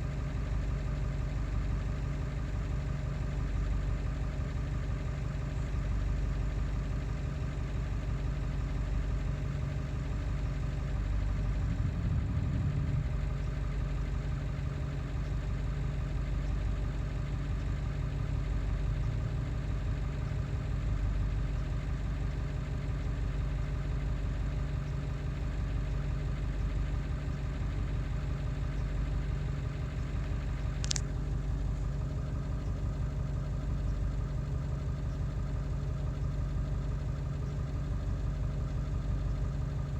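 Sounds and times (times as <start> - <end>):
diesel engine idling roughly: 0.0 - 39.9.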